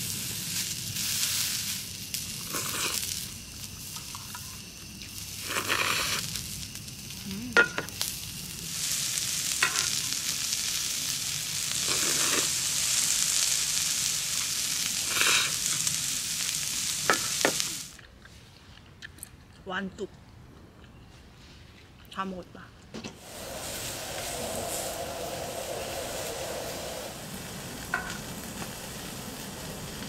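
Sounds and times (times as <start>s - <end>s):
steady sizzle-like hiss: 0.0s - 18.5s, 23.1s - 30.0s.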